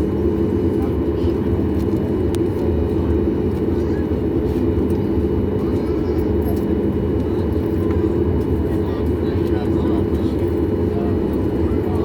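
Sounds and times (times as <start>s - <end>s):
low airplane cabin rumble: 0.0s - 12.0s.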